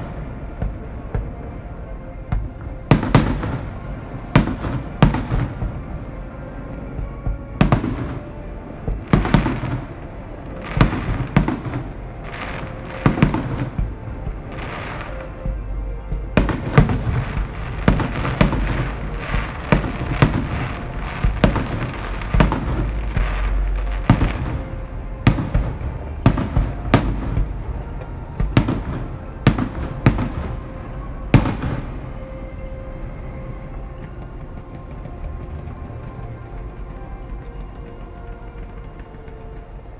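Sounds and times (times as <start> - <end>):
fireworks bursting: 0.0 - 39.9
low rumble: 0.0 - 39.9
show music: 0.0 - 39.9.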